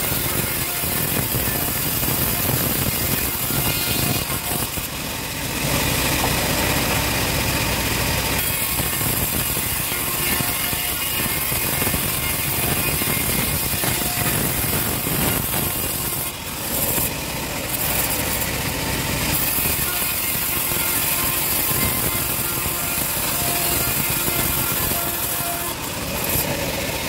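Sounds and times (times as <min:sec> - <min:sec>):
bandsaw mill sawing wood: 0:00.0 - 0:27.0.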